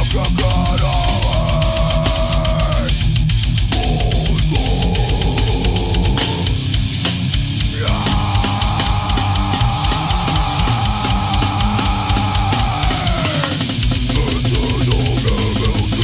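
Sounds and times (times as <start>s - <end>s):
fast dense drumming: 0.0s - 16.0s
metal music: 0.0s - 16.0s.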